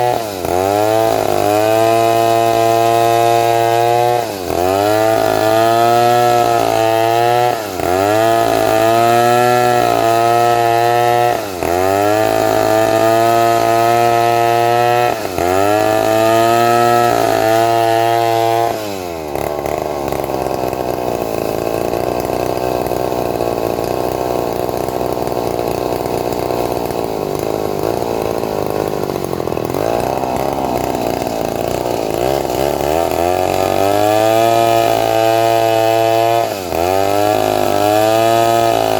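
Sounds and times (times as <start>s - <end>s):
chainsaw sawing through log: 0.0s - 38.9s.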